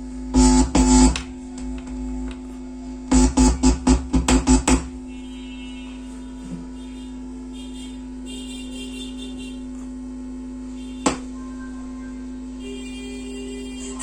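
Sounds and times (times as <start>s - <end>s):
speaker mains hum: 0.0s - 14.0s.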